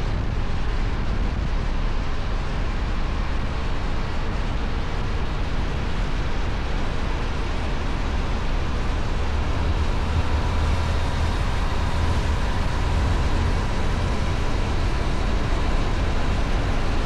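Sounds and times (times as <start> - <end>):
rushing wind noise: 0.0 - 17.0.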